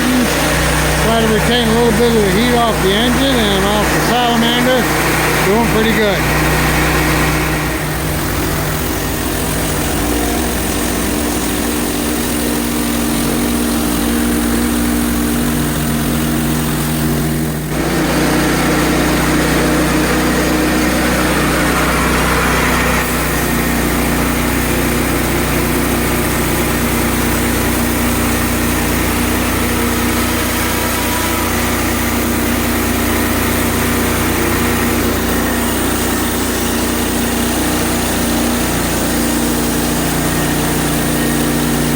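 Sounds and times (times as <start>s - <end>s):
engine running: 0.0s - 41.9s
sawmill whine: 0.0s - 41.9s.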